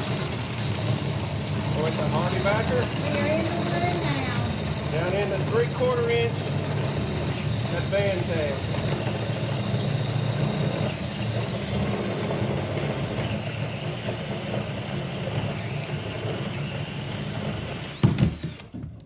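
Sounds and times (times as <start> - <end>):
cordless drill cutting with hole saw: 0.0 - 19.0.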